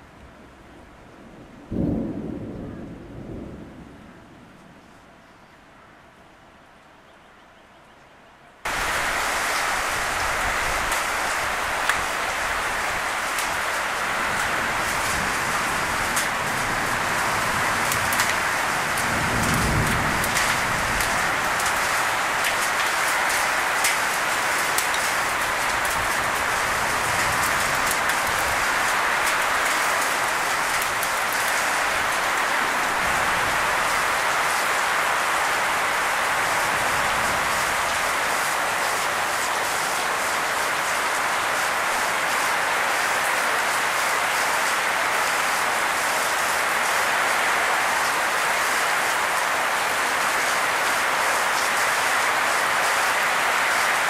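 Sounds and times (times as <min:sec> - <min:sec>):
heavy rain on foliage and deck: 0:00.0 - 0:05.6, 0:08.6 - 0:54.0.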